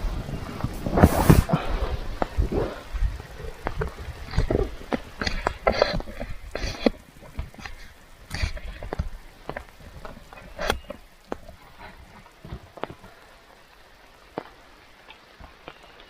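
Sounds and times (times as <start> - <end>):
faint rain patter: 0.0 - 16.0
raindrops tapping close by: 0.0 - 16.0.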